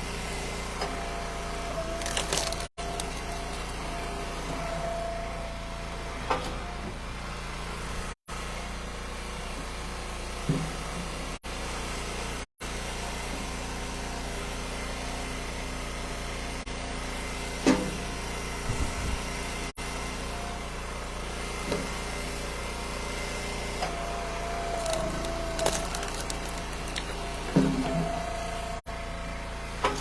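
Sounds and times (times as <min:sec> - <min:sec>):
wood splitter engine running: 0:00.0 - 0:30.0.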